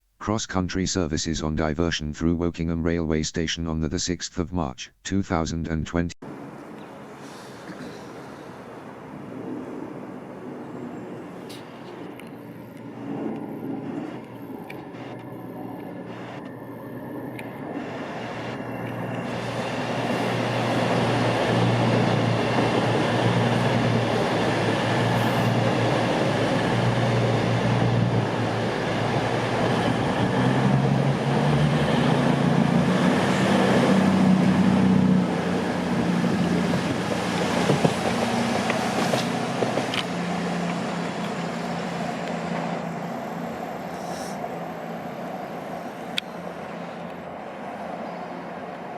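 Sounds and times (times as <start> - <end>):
diesel train passing: 6.3 - 48.9.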